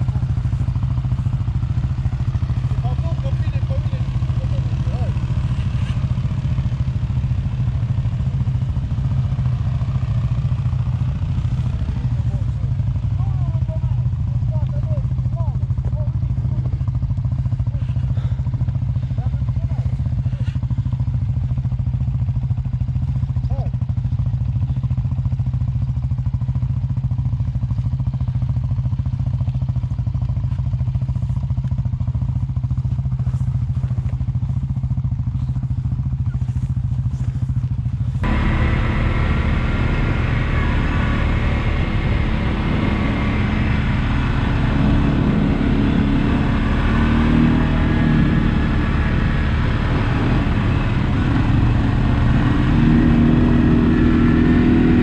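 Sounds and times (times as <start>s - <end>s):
atv engines revving: 0.0s - 22.0s, 28.5s - 55.0s.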